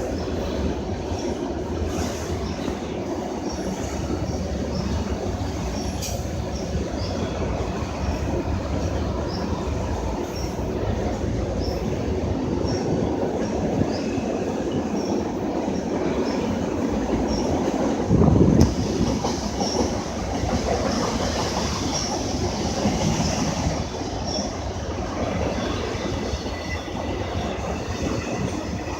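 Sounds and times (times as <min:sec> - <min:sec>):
train wheels rumbling: 0:00.0 - 0:28.9.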